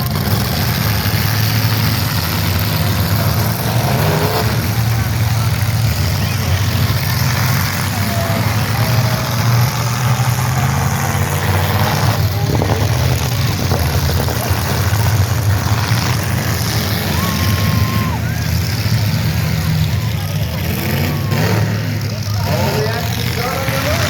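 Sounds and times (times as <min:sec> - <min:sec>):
car engines running rough: 0:00.0 - 0:24.0.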